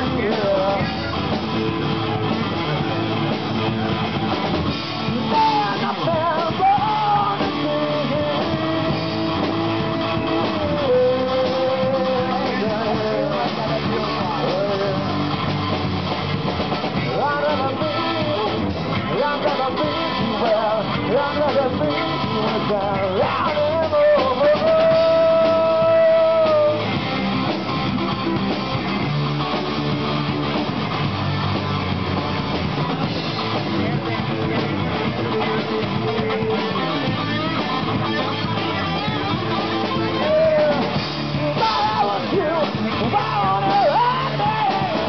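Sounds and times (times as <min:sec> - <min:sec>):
drum kit: 0:00.0 - 0:45.0
electric guitars: 0:00.0 - 0:45.0.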